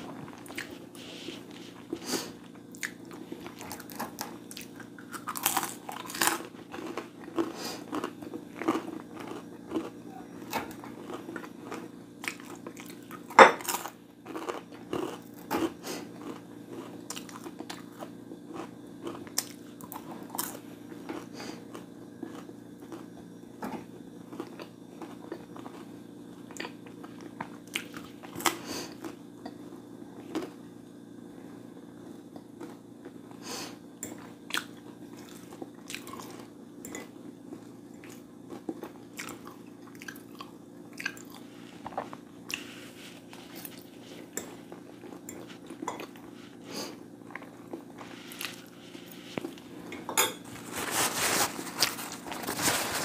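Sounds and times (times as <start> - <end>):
chewing and crunching food: 0.0 - 30.7, 31.4 - 53.0
steady low hum: 0.0 - 53.0.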